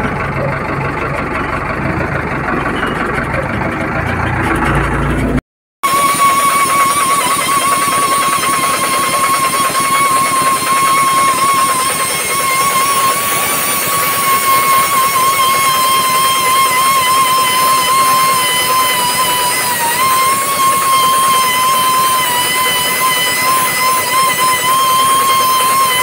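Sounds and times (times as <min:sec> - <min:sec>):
diesel engine running: 0:00.0 - 0:26.0
pneumatic buffer grinding rubber: 0:00.0 - 0:26.0.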